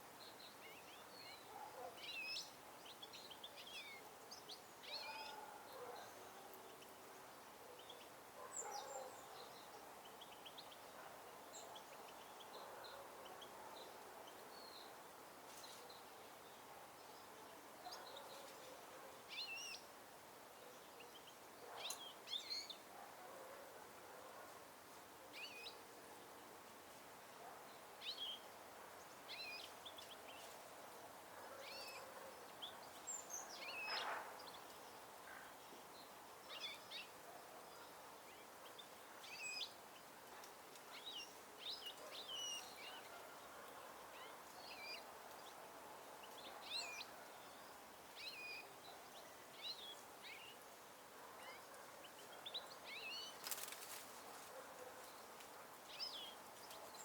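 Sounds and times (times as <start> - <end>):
faint background hiss: 0.0 - 57.0
songbirds chirping: 0.0 - 57.0.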